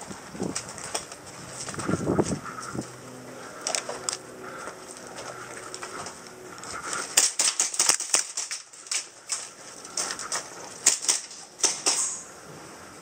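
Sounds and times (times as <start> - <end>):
footsteps on gravel: 0.0 - 10.8.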